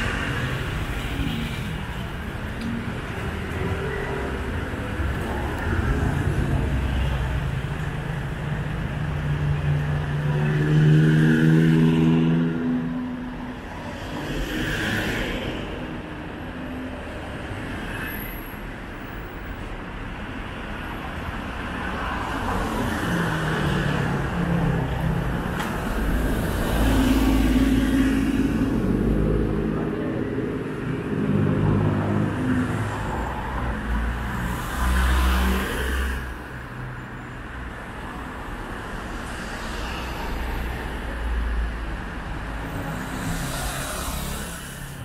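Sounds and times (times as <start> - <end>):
vehicles passing: 0.0 - 45.0.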